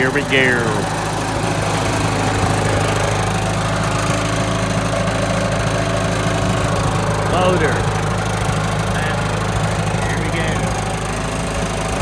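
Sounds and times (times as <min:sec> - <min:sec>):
sawmill engine running: 0:00.0 - 0:12.0.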